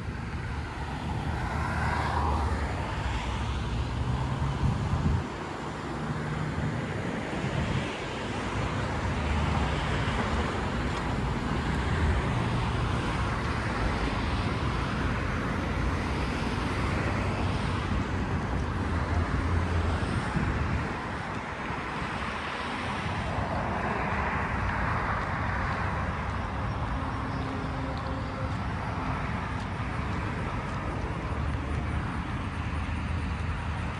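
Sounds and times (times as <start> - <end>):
cars passing: 0.0 - 33.9
road traffic: 0.0 - 33.9.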